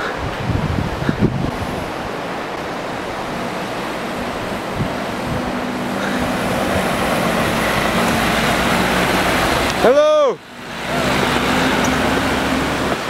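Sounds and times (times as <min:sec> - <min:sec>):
engine humming on a climb: 0:00.0 - 0:13.0
rushing noise: 0:00.0 - 0:13.0.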